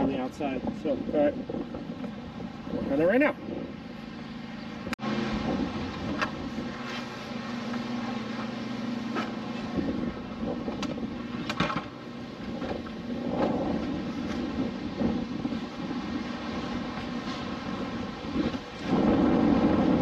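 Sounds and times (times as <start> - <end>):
steady low hum: 0.0 - 20.0
wind on microphone: 0.0 - 20.0.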